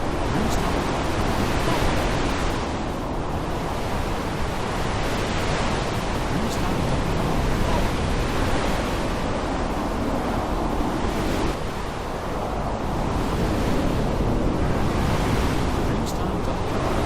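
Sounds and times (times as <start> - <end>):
rain and wind: 0.0 - 17.0.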